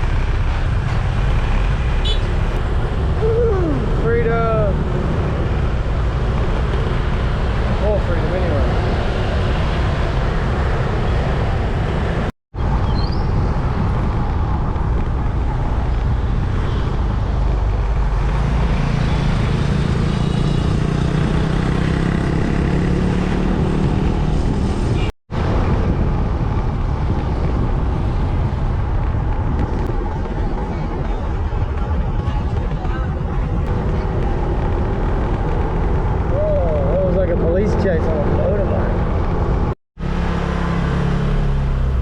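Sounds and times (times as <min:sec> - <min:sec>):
traffic noise: 0:00.0 - 0:42.0.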